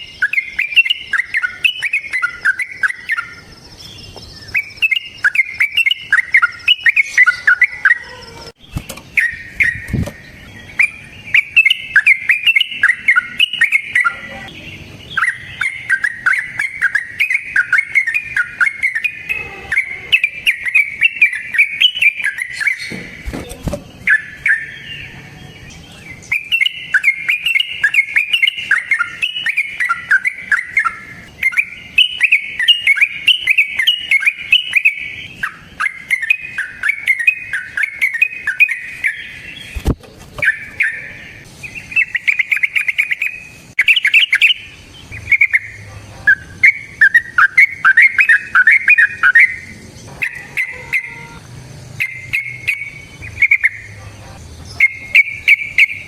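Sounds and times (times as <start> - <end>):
bird warbling song: 0.0 - 56.0.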